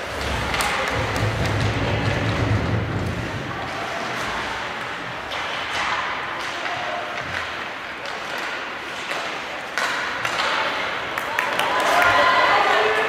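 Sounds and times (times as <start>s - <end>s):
hockey sticks and puck knocks: 0.0s - 12.2s.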